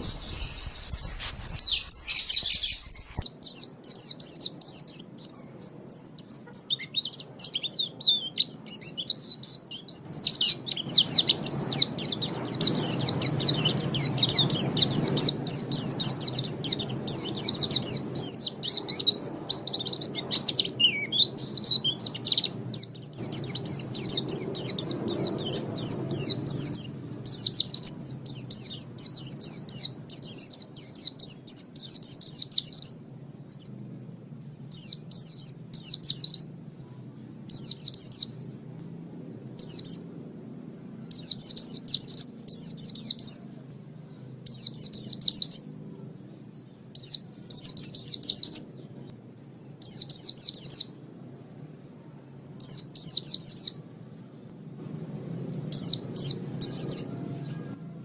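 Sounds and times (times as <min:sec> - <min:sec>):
bird twittering song: 0:00.0 - 0:57.9
faint low rumble: 0:00.0 - 0:58.0.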